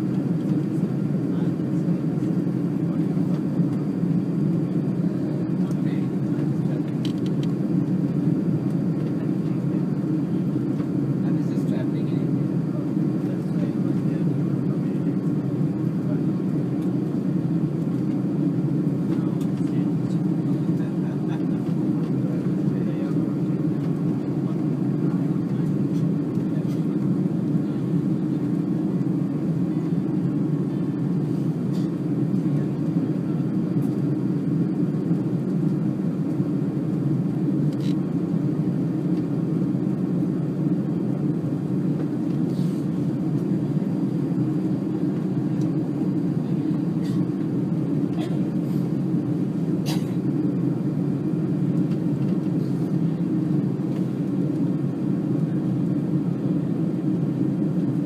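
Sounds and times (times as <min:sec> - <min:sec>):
jet engines low rumble: 0:00.0 - 0:58.0.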